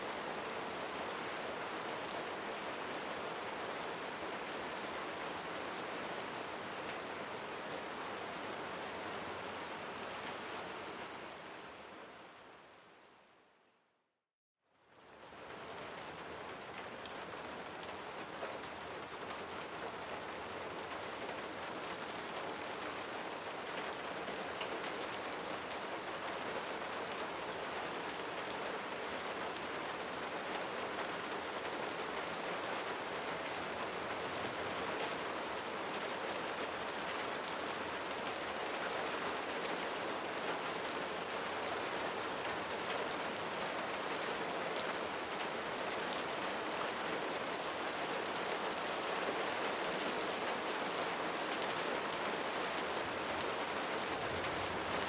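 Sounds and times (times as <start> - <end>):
steady rain falling: 0.0 - 13.7, 14.8 - 55.0.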